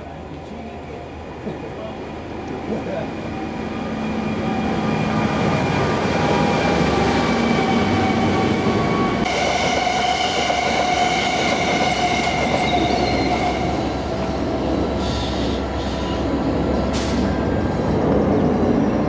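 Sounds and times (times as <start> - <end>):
electric train whine: 0.0 - 19.0
track machine rumbling over rails: 0.4 - 19.0.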